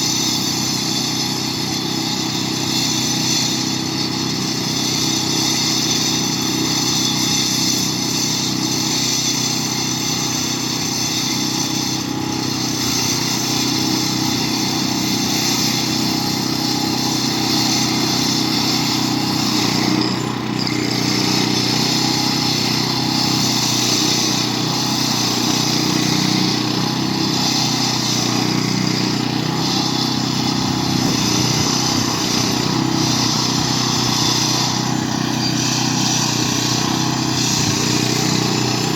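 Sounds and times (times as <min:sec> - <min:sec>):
concrete saw cutting: 0:00.0 - 0:38.9.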